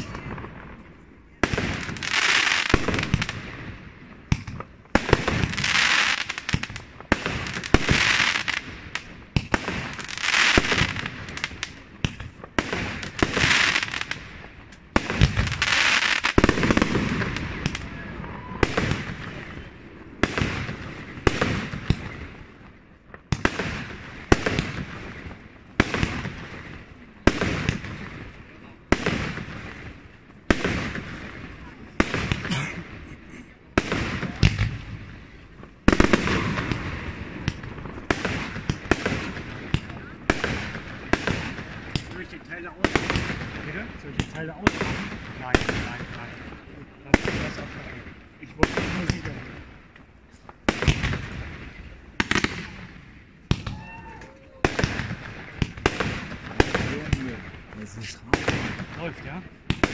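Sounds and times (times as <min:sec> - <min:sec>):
fireworks bangs: 0:00.0 - 0:59.9
fireworks hissing crackle: 0:01.4 - 0:03.7, 0:04.4 - 0:59.9.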